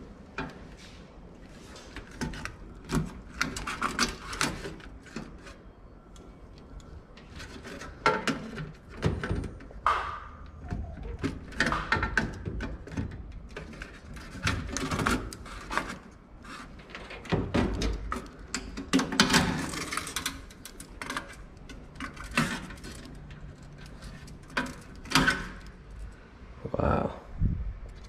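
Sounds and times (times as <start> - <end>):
wire connectors clicking and rustling: 1.4 - 26.2.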